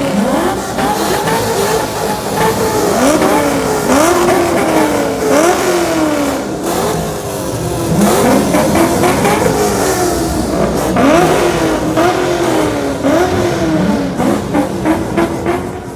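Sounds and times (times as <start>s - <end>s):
many car engines revving: 0.0s - 15.9s.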